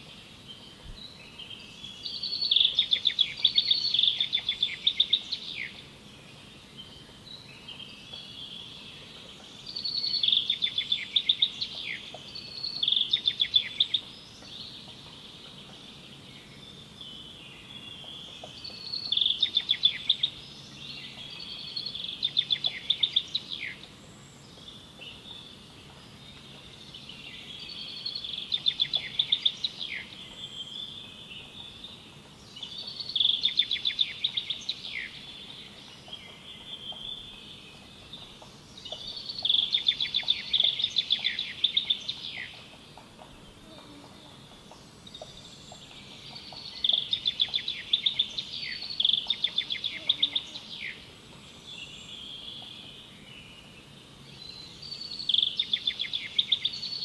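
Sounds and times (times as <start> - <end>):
bird singing rapid trills: 0.4 - 57.0.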